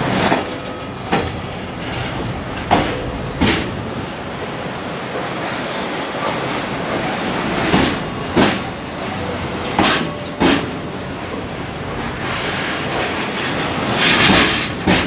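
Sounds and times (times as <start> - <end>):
wheels clacking over rail joints: 0.0 - 4.2, 7.0 - 15.0
train wheels rumbling on rail: 0.0 - 15.0.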